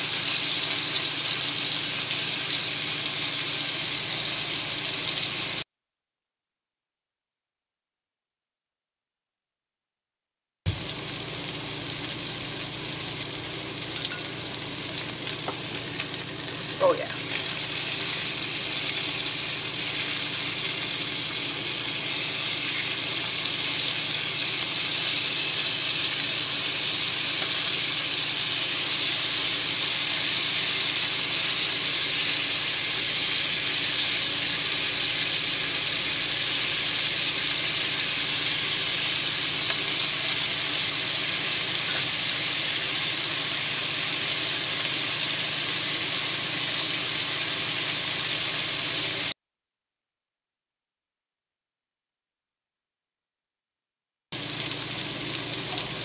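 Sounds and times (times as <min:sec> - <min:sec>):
beef sizzling in a pot: 0:00.0 - 0:05.6, 0:10.7 - 0:49.4, 0:54.4 - 0:56.0.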